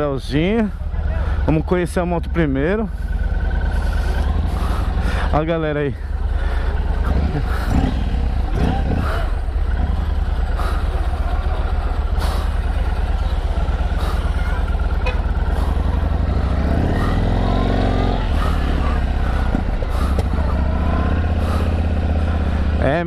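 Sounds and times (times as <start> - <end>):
motorcycle engine pulsing: 0.0 - 23.0.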